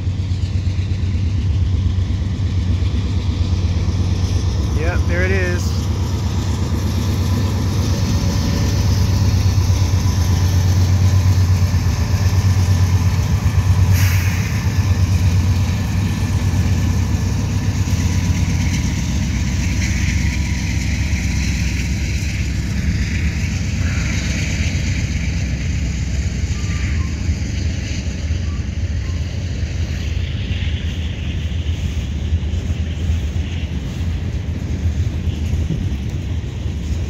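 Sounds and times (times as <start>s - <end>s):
diesel locomotive engines droning: 0.0s - 37.0s
freight cars wheels on rails: 0.0s - 37.0s.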